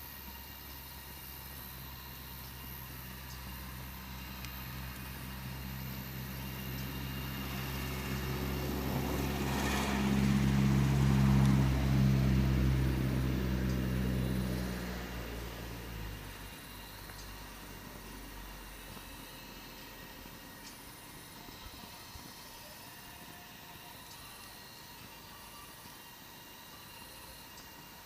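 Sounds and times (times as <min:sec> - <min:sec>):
vehicle engine drone: 0:00.0 - 0:28.0.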